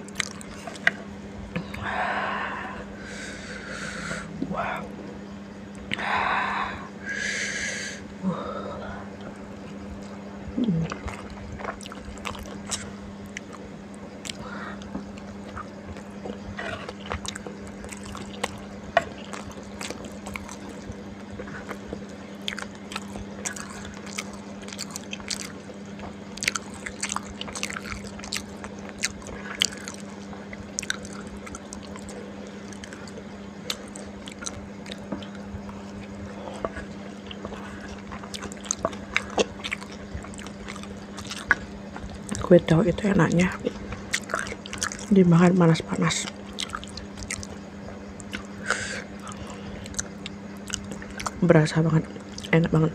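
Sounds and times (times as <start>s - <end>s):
person chewing: 0.0s - 2.8s, 9.2s - 45.2s, 46.1s - 51.4s, 52.0s - 52.6s
steady low hum: 0.0s - 52.9s.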